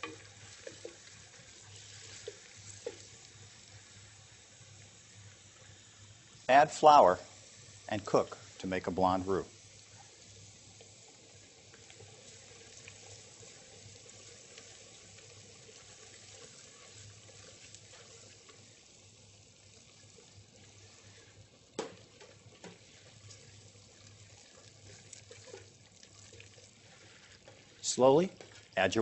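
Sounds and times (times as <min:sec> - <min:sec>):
wooden spoon stirring in pot: 0:00.0 - 0:05.7, 0:09.8 - 0:28.8
vegetables sizzling in butter: 0:00.0 - 0:29.0.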